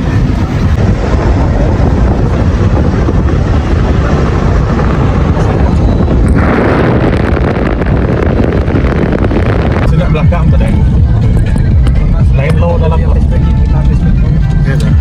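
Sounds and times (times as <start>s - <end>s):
moving vehicle rumble: 0.0s - 15.0s
wind buffeting microphone: 0.0s - 15.0s.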